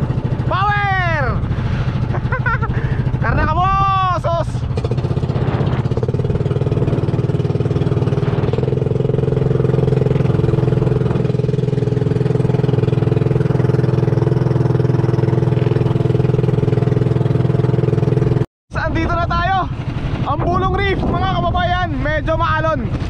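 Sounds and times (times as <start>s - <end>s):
boat engine droning: 0.0s - 21.8s.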